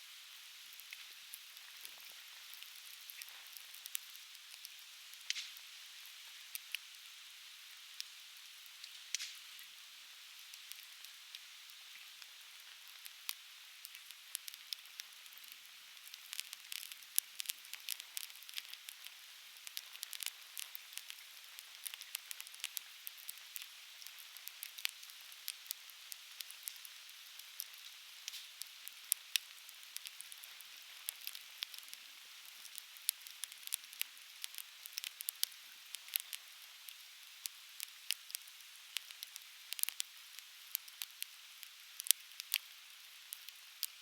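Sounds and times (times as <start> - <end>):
campfire crackling: 0.7 - 5.6, 8.7 - 9.4, 12.2 - 44.0.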